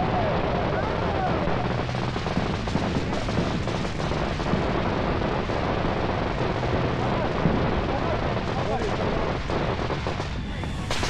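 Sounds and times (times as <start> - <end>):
firework fountain crackling: 0.0 - 11.0
firework sparks hissing: 1.4 - 11.0.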